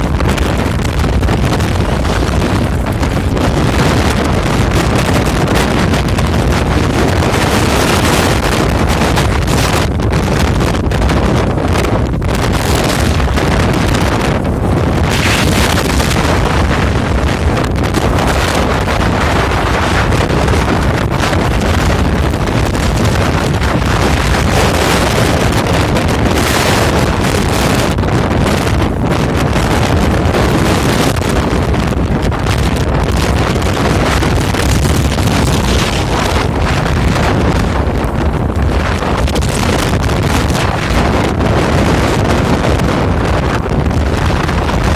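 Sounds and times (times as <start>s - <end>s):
blizzard wind buffeting microphone: 0.0s - 44.9s.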